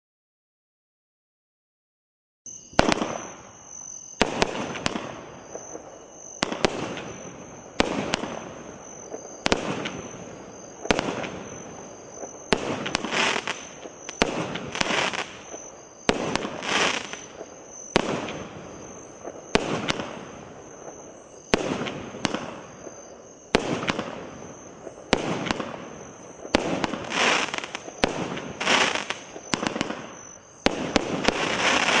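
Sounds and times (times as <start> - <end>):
firework cake bangs with crackling: 2.8 - 3.6, 4.2 - 32.0.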